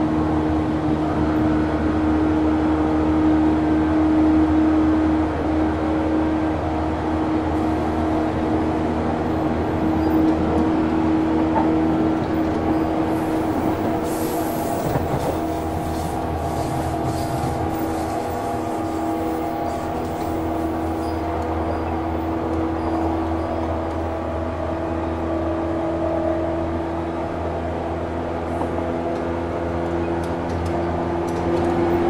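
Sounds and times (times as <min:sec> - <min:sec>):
train rolling noise: 0:00.0 - 0:32.0.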